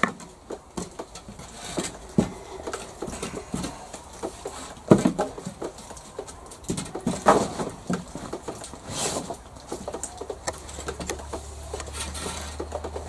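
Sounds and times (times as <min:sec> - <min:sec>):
wooden poles knocking and scraping: 0:00.0 - 0:13.0.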